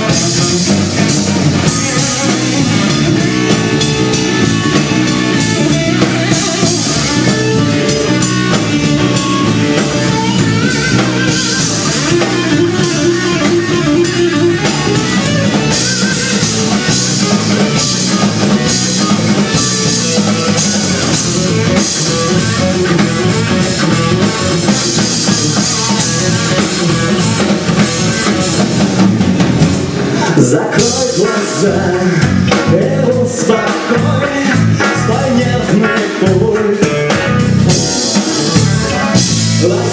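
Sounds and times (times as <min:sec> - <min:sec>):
drum kit: 0:00.0 - 0:39.9
rock guitar playing: 0:00.0 - 0:39.9.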